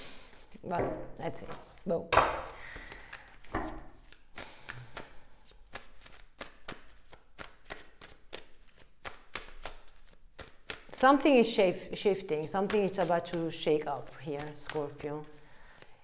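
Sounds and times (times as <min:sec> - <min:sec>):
cards being shuffled: 0:01.4 - 0:16.0.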